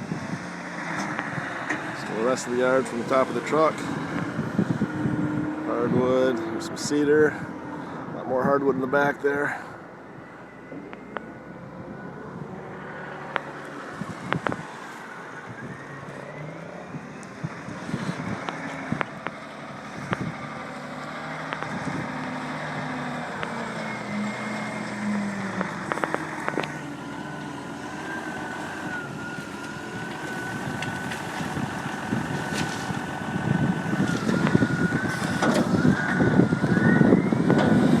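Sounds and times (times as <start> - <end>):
diesel engine running: 0.0 - 38.0
steady whine: 1.0 - 38.0.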